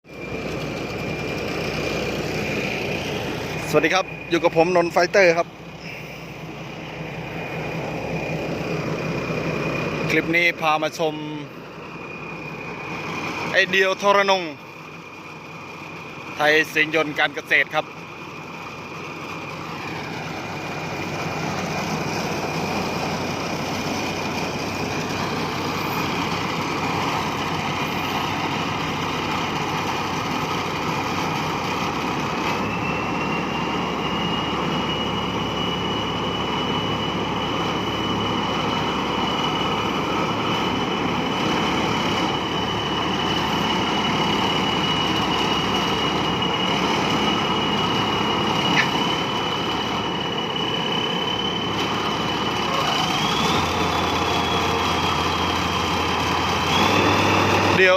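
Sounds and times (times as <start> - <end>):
combine harvester running: 0.0 - 57.9
high whine: 0.0 - 57.9.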